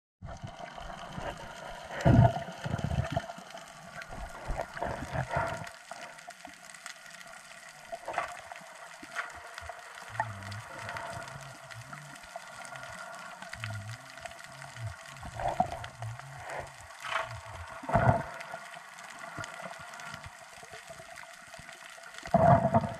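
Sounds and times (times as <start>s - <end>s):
underwater water noise: 0.2s - 22.9s.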